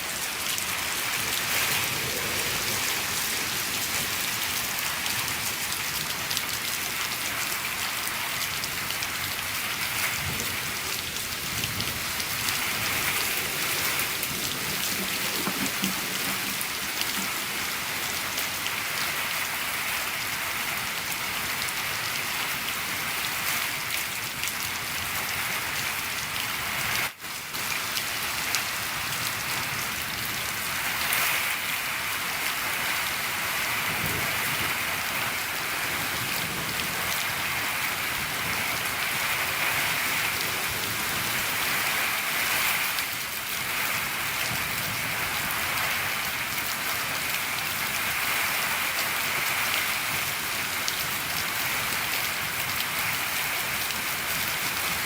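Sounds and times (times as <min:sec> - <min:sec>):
rain on a shed roof: 0:00.0 - 0:55.0.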